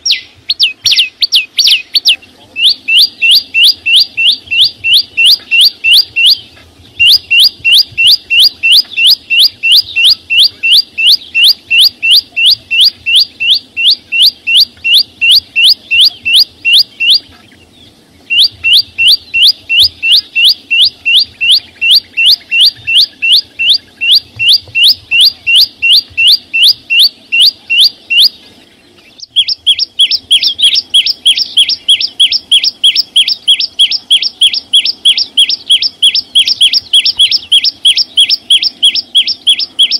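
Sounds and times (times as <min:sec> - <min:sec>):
songbird calling in sharp notes: 0:00.0 - 0:39.9.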